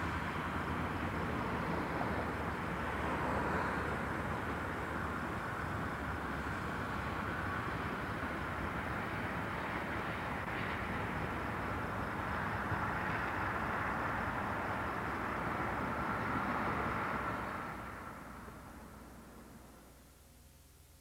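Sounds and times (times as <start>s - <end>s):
rushing outdoor background noise: 0.0s - 21.0s.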